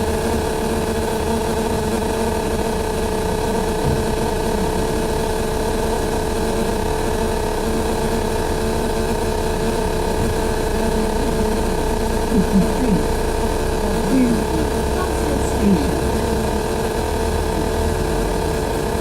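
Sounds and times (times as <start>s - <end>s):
steady droning tone: 0.0s - 19.0s.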